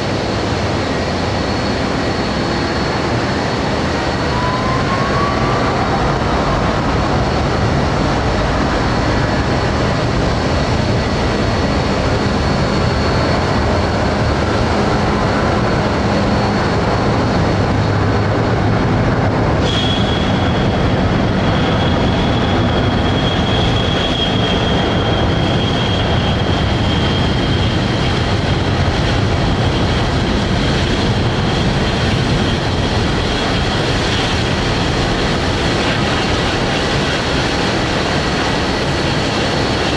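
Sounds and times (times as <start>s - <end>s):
jet engine high whine: 0.0s - 39.9s
jet engine roar: 0.0s - 39.9s.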